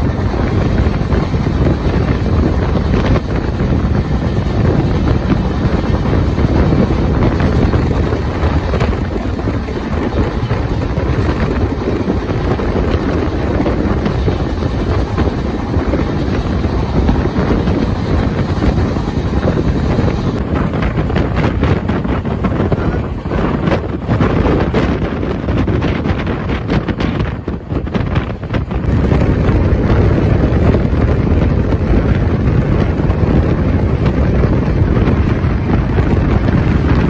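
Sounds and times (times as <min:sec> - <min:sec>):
train rumbling: 0:00.0 - 0:37.0
wind on microphone: 0:00.0 - 0:37.0.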